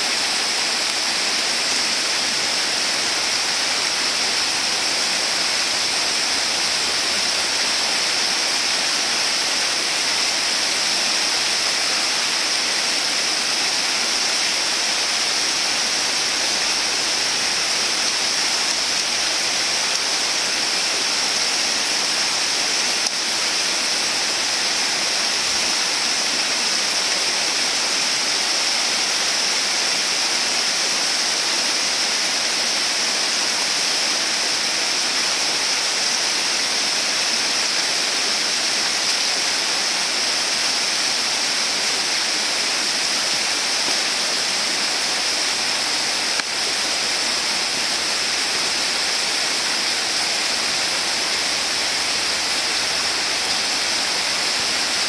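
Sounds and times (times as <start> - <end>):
waterfall pouring into pool: 0.0 - 55.0.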